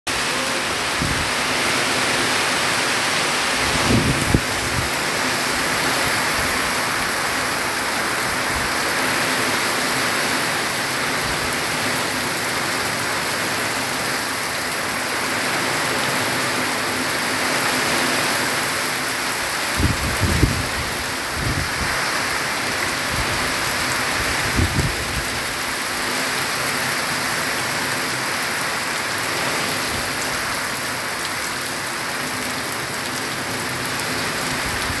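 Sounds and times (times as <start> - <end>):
heavy rain on a metal roof: 0.1 - 35.0.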